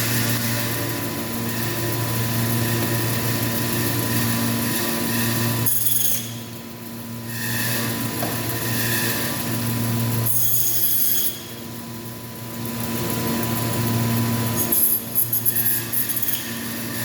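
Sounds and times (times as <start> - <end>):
meat bandsaw cutting: 0.0 - 6.6, 7.2 - 11.7, 12.4 - 17.0.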